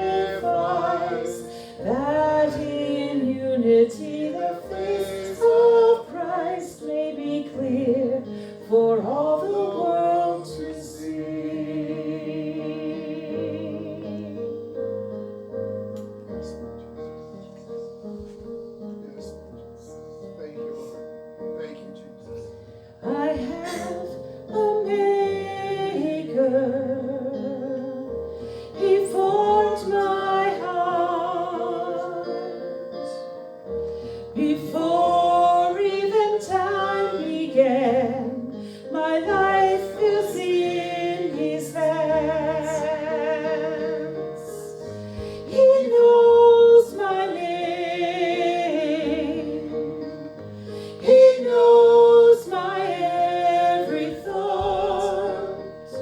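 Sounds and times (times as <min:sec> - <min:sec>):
woman singing hymn with vibrato: 0:00.0 - 0:14.4, 0:23.0 - 0:27.8, 0:28.6 - 0:33.2, 0:34.1 - 0:56.0
sustained instrumental accompaniment: 0:00.0 - 0:56.0.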